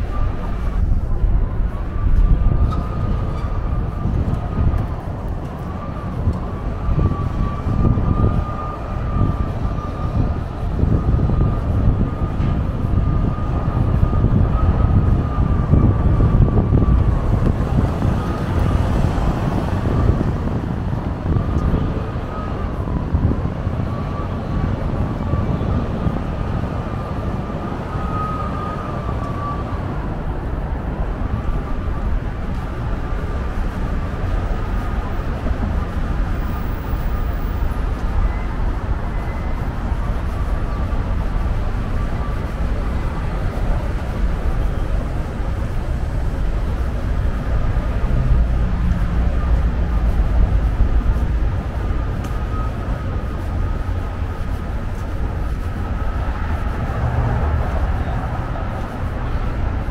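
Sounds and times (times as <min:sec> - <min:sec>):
rumble of vehicles: 0:00.0 - 0:59.9.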